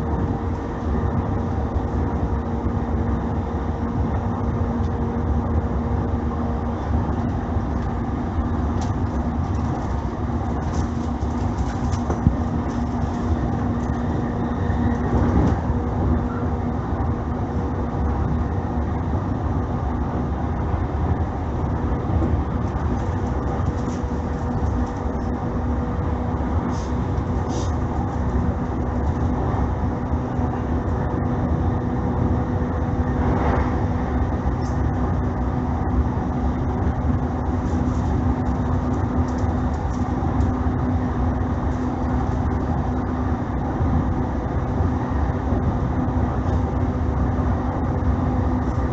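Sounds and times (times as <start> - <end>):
constant electric hum: 0.0 - 48.9
train wheels rumbling on rail: 0.0 - 48.9.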